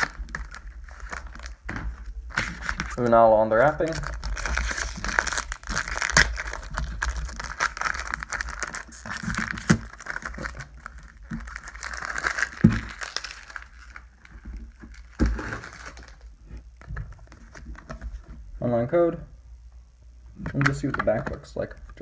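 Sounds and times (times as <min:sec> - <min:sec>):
foil wrapper crinkling: 0:00.0 - 0:18.3.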